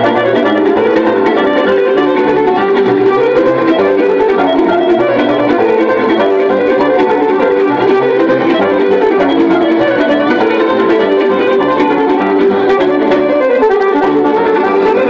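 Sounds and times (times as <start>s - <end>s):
fiddle playing quick runs: 0.0s - 15.0s
plucked strings accompaniment: 0.0s - 15.0s.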